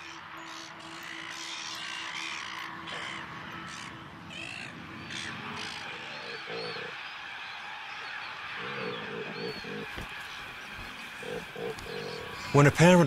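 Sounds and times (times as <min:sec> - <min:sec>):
gulls calling harshly: 0:00.0 - 0:13.0.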